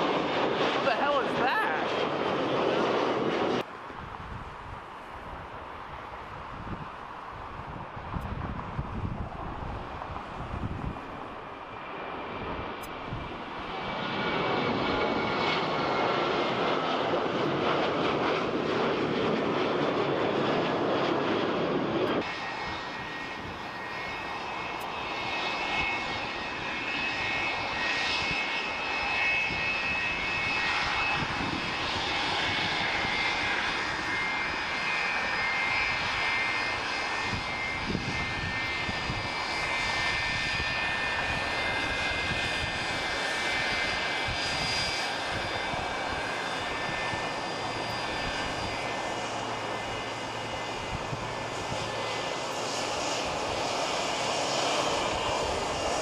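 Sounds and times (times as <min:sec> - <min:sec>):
high-pitched jet engine whine: 0:00.0 - 0:56.0
jet engine roar: 0:00.0 - 0:56.0.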